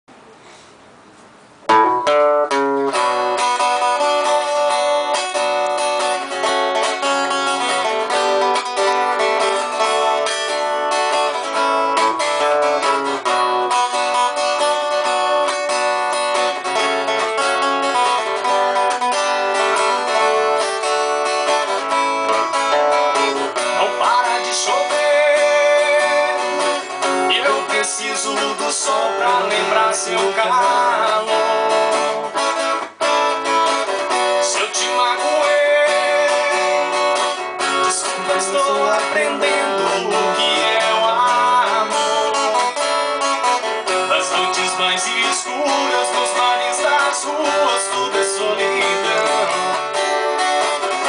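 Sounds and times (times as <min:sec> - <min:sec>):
acoustic guitar playing: 0:01.1 - 0:51.0.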